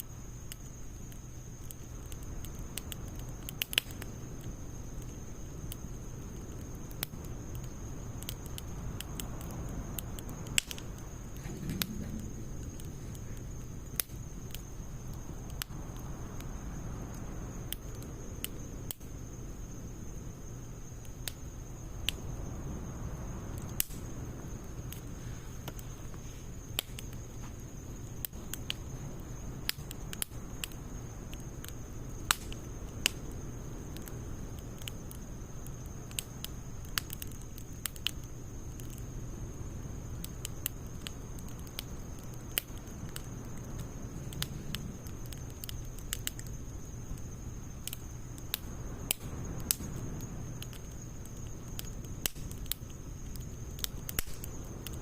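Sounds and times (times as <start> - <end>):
low rumble of burning: 0.0 - 55.0
wood fire crackling and popping: 0.0 - 55.0.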